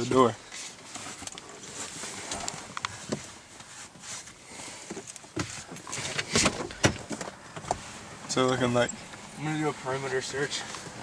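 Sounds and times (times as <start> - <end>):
rustling inside a car: 0.0 - 11.0.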